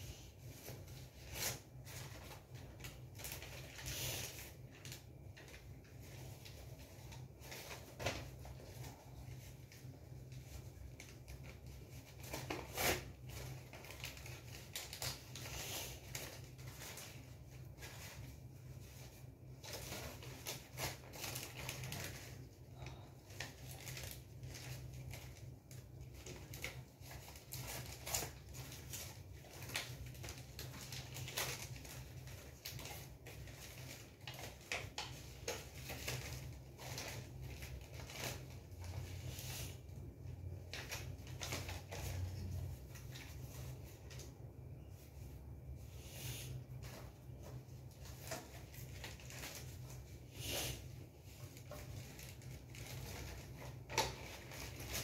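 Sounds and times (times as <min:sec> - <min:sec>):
low steady hum: 0:00.0 - 0:55.0
paper and plastic rustling: 0:00.0 - 0:55.0.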